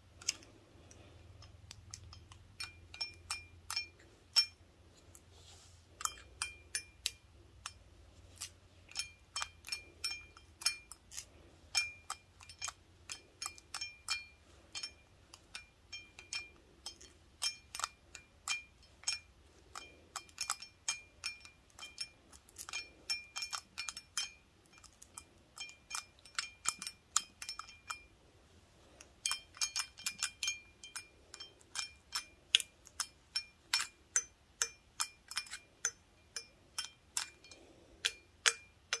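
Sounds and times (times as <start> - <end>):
toothpicks tapping glass stein: 0.2 - 4.6, 6.0 - 7.8, 8.4 - 28.1, 29.2 - 39.0.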